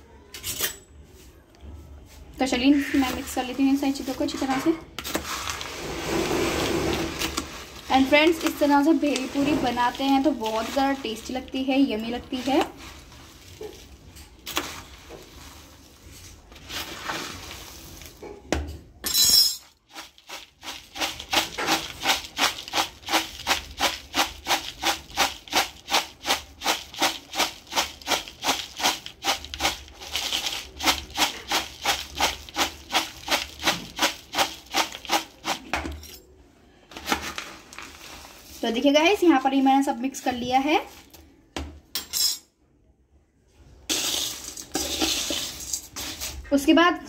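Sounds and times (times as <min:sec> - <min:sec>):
steel spoon scraping and stirring: 0:02.4 - 0:18.5, 0:19.4 - 0:41.2, 0:43.9 - 0:46.5
dry snack mix rattling in plastic bowl: 0:02.5 - 0:18.2, 0:19.7 - 0:35.9, 0:36.9 - 0:41.1, 0:43.9 - 0:46.5.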